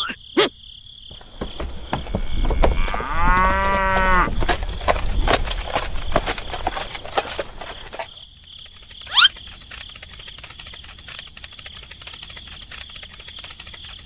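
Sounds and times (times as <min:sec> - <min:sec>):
crickets chirping: 0:00.0 - 0:14.0
clicking and rustling: 0:01.1 - 0:14.0.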